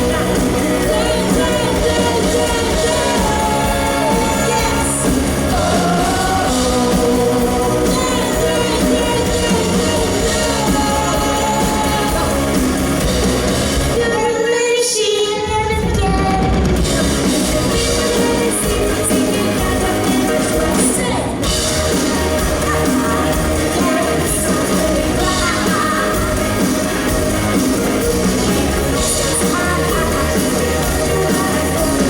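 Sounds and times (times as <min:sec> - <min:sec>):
drums and bass: 0:00.0 - 0:14.6, 0:15.2 - 0:32.0
live rock band playing: 0:00.0 - 0:32.0.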